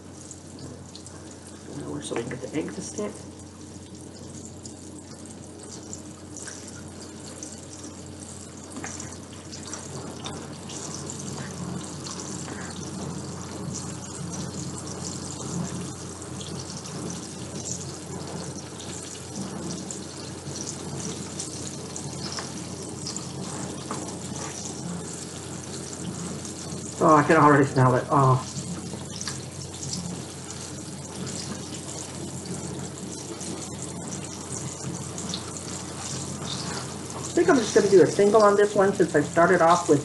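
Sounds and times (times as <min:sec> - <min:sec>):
food frying in hot oil: 0:00.0 - 0:40.0.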